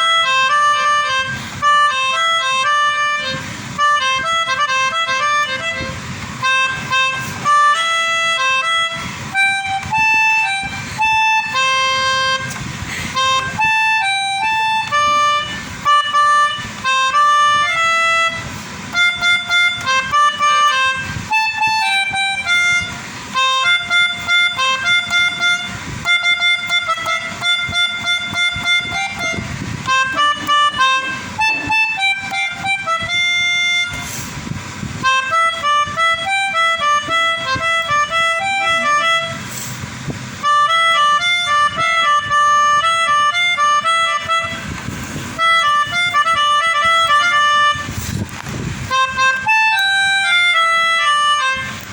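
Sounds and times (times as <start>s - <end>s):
melodica melody: 0.0s - 51.9s.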